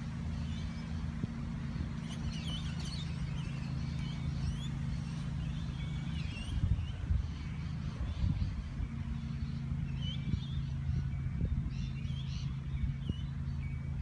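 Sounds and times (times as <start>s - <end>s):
birds chirping: 0.0s - 14.0s
low engine hum: 0.0s - 14.0s
wind buffeting microphone: 0.0s - 14.0s.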